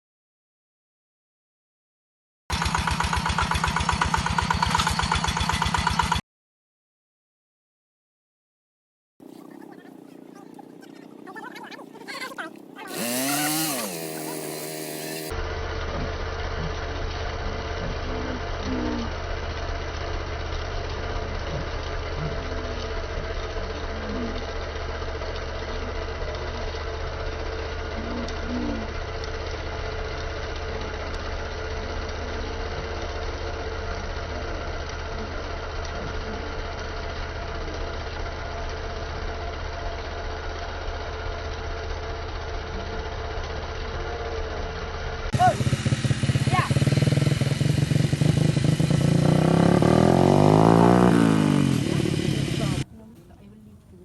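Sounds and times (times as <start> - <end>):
small engine running: 2.5 - 6.2, 9.2 - 54.0.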